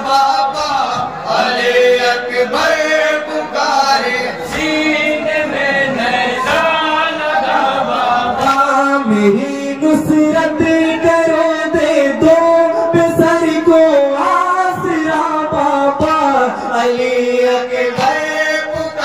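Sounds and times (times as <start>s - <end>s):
lead reciter on a microphone: 0.0s - 19.0s
men chanting a lament: 0.0s - 19.0s.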